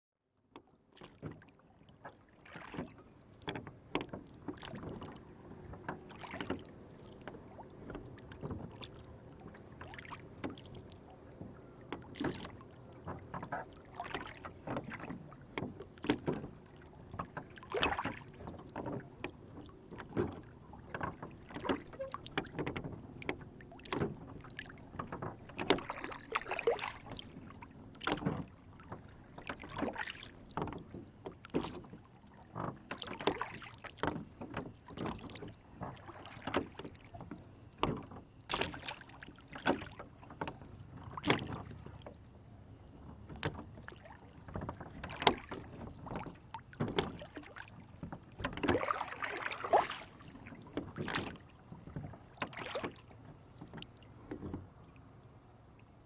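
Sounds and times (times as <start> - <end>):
water lapping against a boat: 0.2 - 56.0
small knocks and splashes: 0.4 - 42.4, 43.0 - 55.1.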